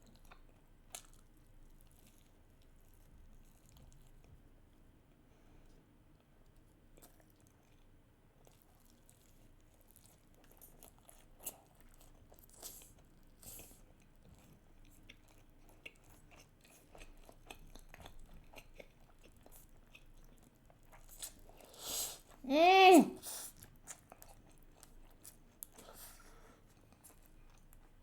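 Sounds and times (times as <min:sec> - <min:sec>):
chewing food: 0:00.0 - 0:22.4, 0:23.2 - 0:28.0.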